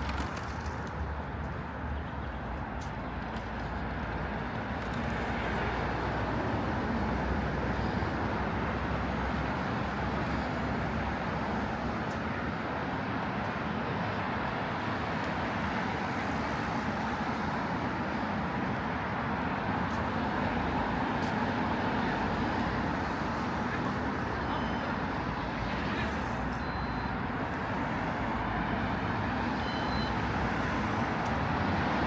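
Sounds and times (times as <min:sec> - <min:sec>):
passing cars: 0:00.0 - 0:32.0.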